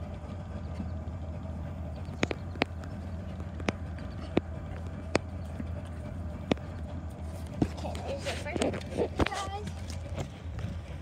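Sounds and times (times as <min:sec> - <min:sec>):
steady low hum: 0:00.0 - 0:11.0
water slapping against boat: 0:00.0 - 0:11.0.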